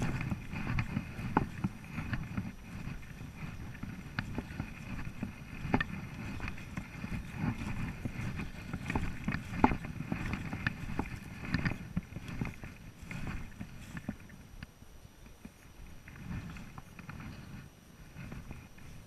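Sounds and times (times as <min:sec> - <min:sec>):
rustling through undergrowth: 0:00.0 - 0:19.0.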